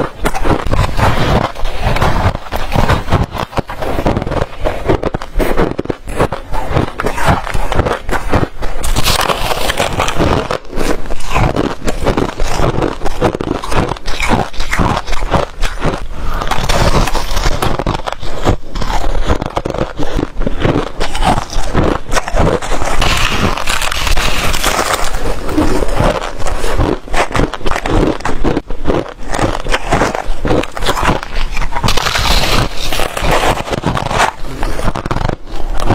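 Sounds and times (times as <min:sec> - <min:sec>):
frost being chewed crunching: 0:00.0 - 0:35.9.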